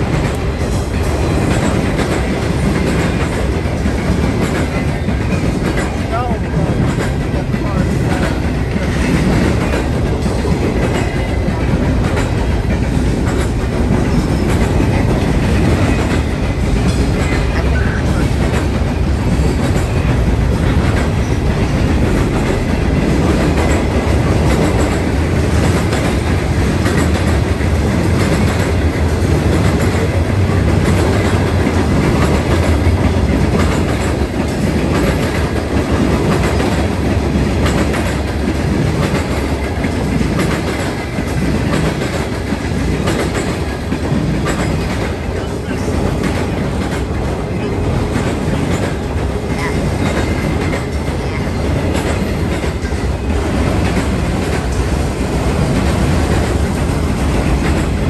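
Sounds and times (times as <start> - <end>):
steel wheels rumbling on rail: 0.0 - 58.0
wheels clicking over rail joints: 0.0 - 58.0.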